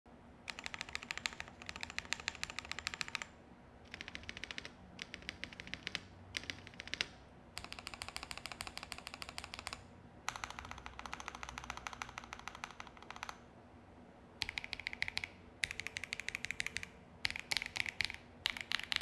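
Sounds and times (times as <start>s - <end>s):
mechanical keyboard typing: 0.5s - 13.4s, 14.4s - 19.0s.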